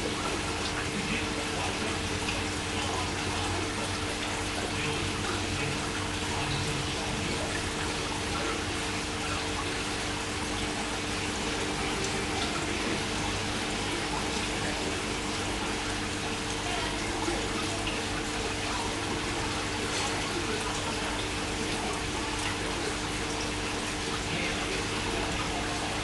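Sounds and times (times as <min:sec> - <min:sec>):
aquarium water rushing: 0:00.0 - 0:26.0.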